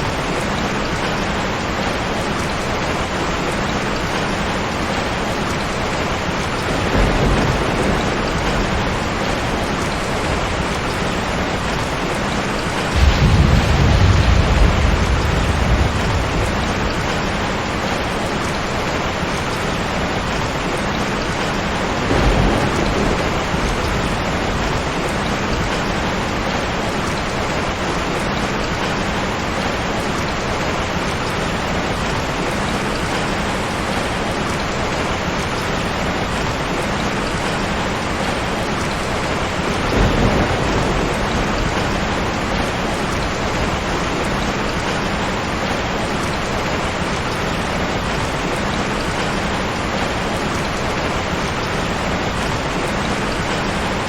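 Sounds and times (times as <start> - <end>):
heavy rain falling: 0.0 - 54.0
low rumble of thunder: 0.1 - 29.0, 37.4 - 54.0.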